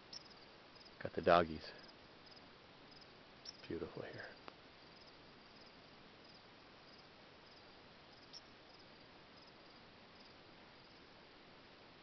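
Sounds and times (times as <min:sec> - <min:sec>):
insects chirping: 0:00.0 - 0:01.0, 0:01.7 - 0:11.1
low hiss: 0:00.0 - 0:12.0.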